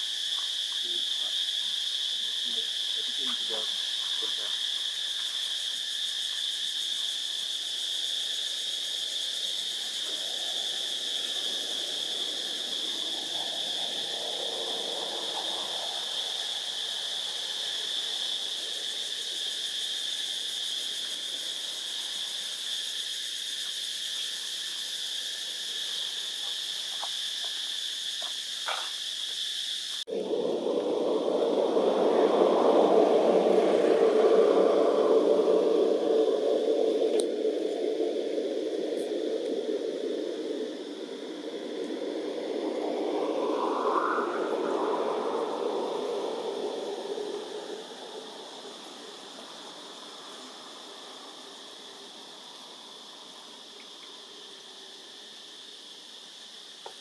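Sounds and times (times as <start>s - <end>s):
insect chorus drone: 0.0s - 57.0s.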